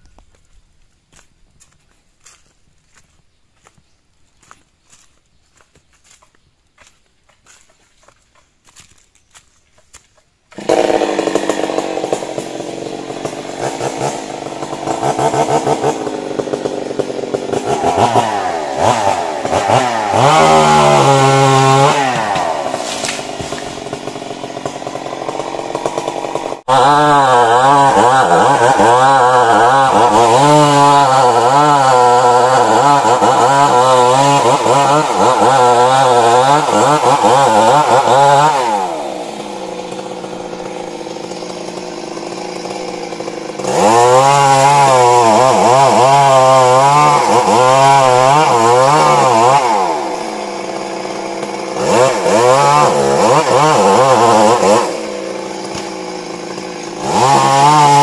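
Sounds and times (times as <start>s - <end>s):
chainsaw cutting wood: 4.4s - 58.0s.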